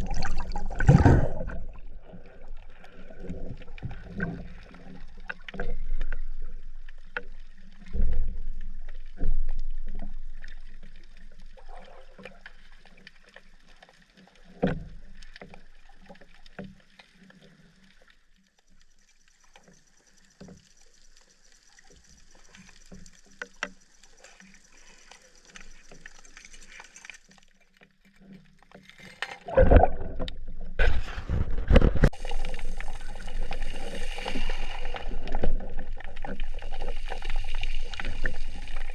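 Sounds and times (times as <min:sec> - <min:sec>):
underwater water noise: 0:00.0 - 0:38.9.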